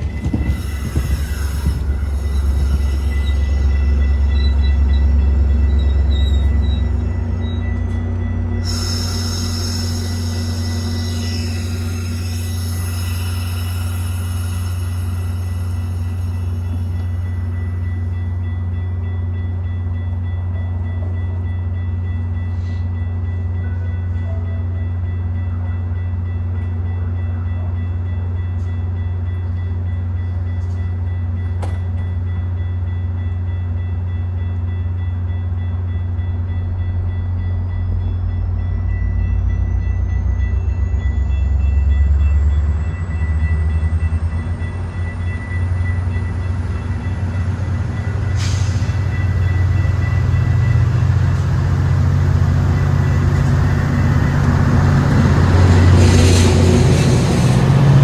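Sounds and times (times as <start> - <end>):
diesel train engine rumble: 0.0 - 58.0.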